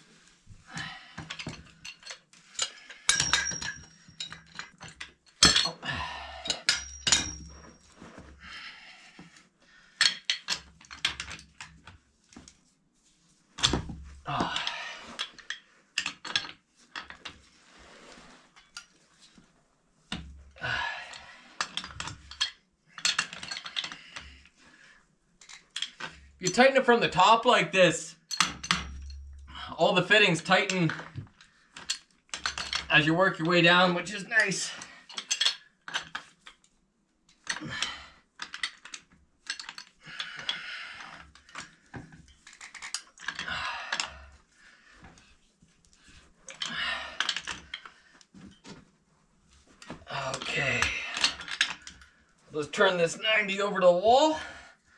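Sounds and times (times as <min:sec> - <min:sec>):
metallic clinks of pipe wrenches: 0:00.8 - 0:08.6, 0:10.0 - 0:12.6, 0:13.6 - 0:17.4, 0:20.1 - 0:24.5, 0:25.4 - 0:27.5, 0:28.1 - 0:44.4, 0:45.9 - 0:48.8, 0:49.8 - 0:54.6.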